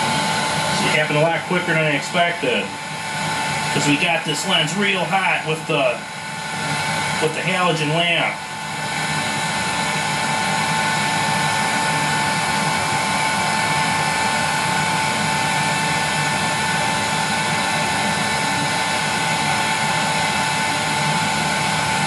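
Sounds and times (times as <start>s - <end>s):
heat gun blowing with whine: 0.0s - 22.0s.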